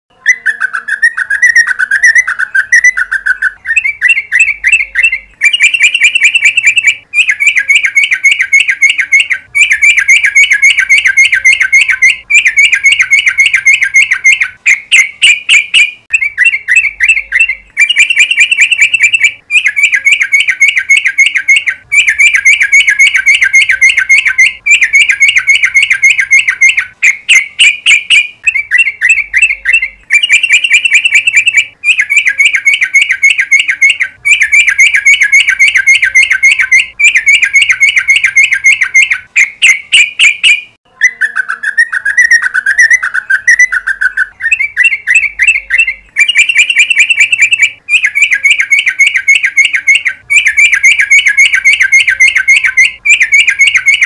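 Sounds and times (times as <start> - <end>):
bulbul singing rapid chattering: 0.1 - 54.0.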